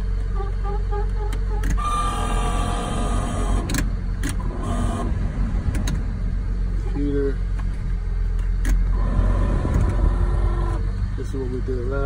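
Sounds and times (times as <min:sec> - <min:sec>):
whining tone: 0:00.0 - 0:11.0
steady low hum: 0:00.0 - 0:12.0.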